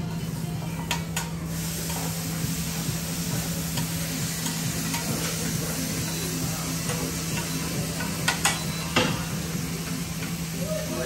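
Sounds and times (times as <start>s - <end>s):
food sizzling on a griddle: 0.1s - 11.0s.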